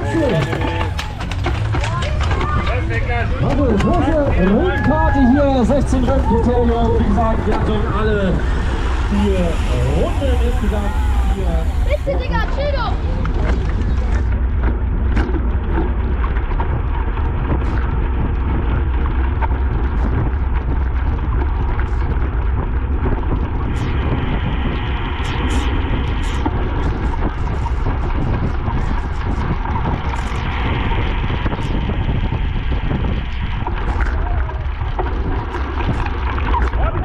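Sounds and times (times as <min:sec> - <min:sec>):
wind over microphone: 0:00.0 - 0:37.0.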